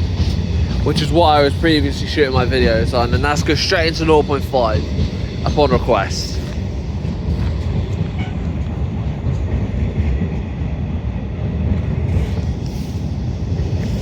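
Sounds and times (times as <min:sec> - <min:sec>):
diesel train rumbling: 0:00.0 - 0:14.0.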